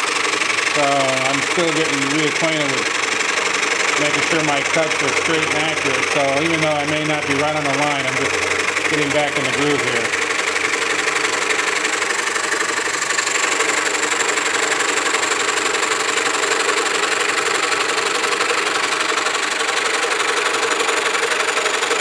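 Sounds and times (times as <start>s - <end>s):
scroll saw cutting wood: 0.0s - 22.0s.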